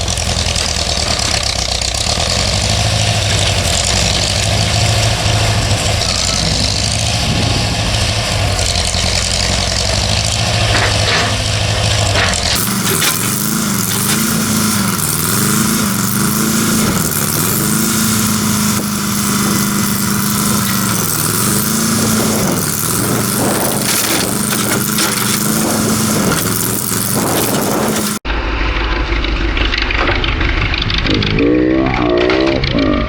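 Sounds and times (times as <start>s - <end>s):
demolition machine engine under load: 0.0s - 33.0s.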